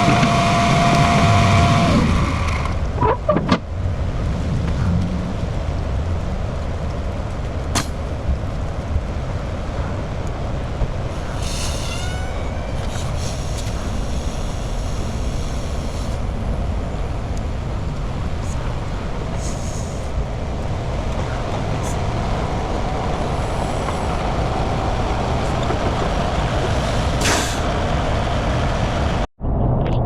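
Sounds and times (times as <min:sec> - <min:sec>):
truck diesel engine rumbling: 0:00.0 - 0:29.3.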